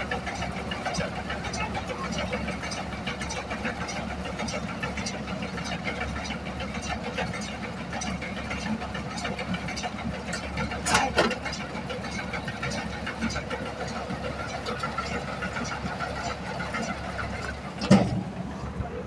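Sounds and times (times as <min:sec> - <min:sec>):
tractor engine running: 0:00.0 - 0:19.0
baler rattling and clicking: 0:00.1 - 0:18.4.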